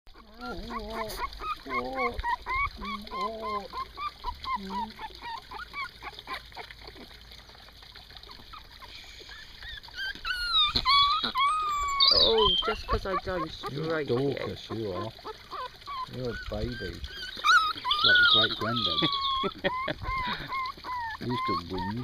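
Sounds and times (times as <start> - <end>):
puppies whining: 0.2 - 7.2, 8.2 - 22.0
puppies yelping: 0.2 - 7.2, 8.2 - 22.0.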